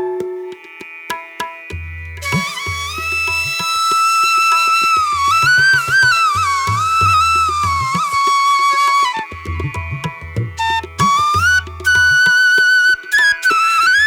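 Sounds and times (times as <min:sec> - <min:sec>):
flute sliding melody: 0:02.2 - 0:14.0.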